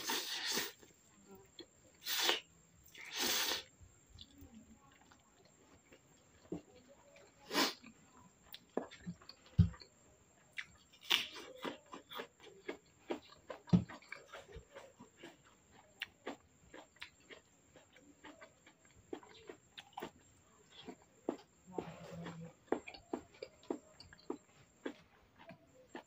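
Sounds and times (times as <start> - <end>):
crunching raw vegetables: 1.5 - 26.0.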